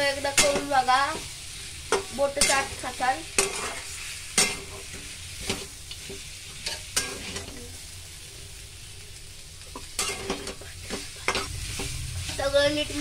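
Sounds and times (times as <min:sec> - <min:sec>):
vegetables sizzling in a pan: 0:00.0 - 0:13.0
metal spatula scraping a pan: 0:00.1 - 0:07.7, 0:09.8 - 0:13.0.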